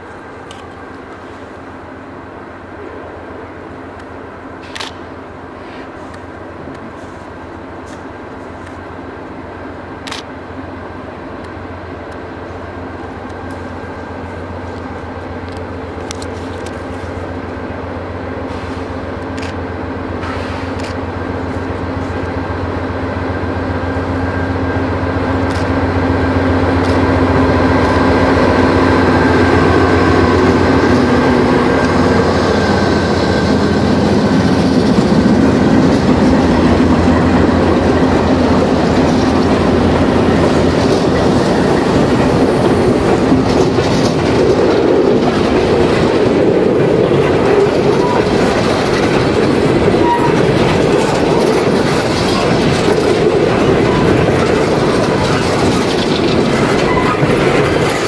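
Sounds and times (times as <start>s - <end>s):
diesel locomotive engines droning: 0.0s - 58.0s.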